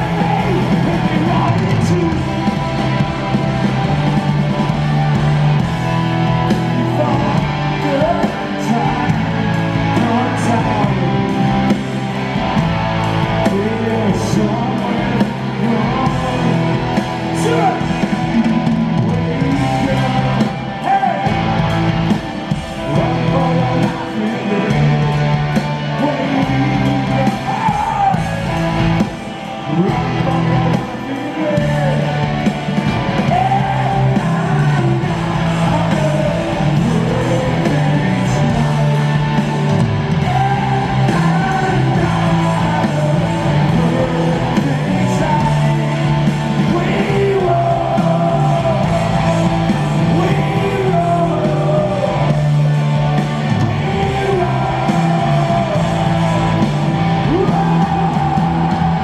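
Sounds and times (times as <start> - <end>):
live rock band: 0.0 - 59.0.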